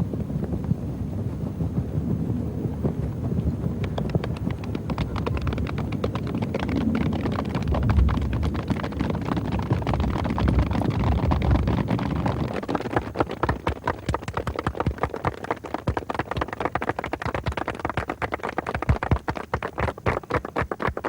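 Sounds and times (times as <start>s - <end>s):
hands slapping imitating rain: 3.9s - 21.0s.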